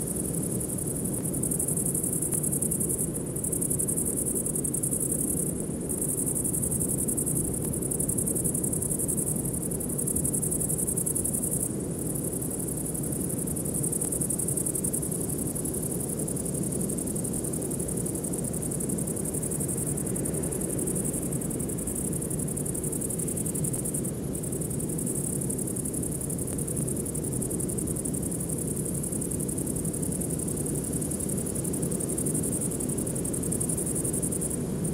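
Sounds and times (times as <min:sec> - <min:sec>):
constant high hiss: 0:00.0 - 0:34.9.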